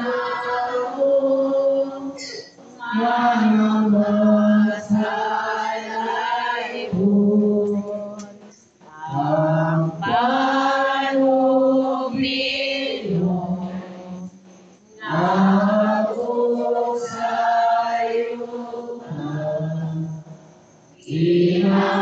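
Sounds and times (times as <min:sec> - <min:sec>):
voices singing a slow hymn: 0:00.0 - 0:22.0.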